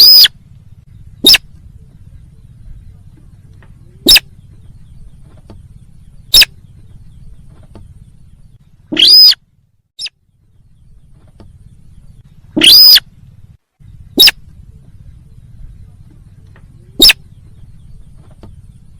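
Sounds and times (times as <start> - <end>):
distorted recorded bird call: 0.0 - 18.9
low steady hum: 0.0 - 18.9.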